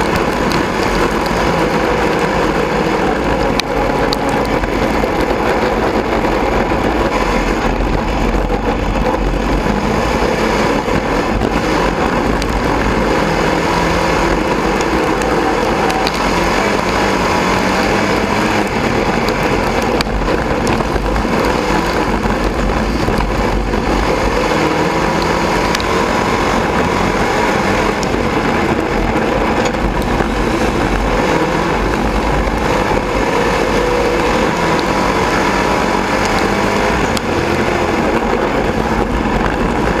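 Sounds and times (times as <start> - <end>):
race car engine: 0.0 - 40.0
wind and chassis noise: 0.0 - 40.0.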